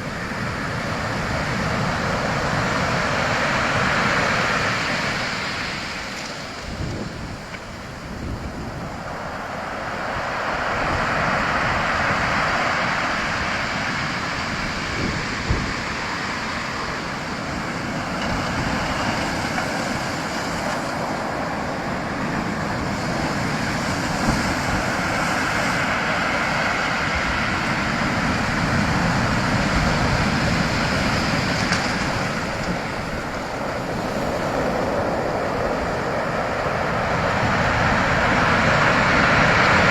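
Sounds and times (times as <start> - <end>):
sea waves breaking: 0.0 - 39.9
wind rumbling on microphone: 0.0 - 39.9.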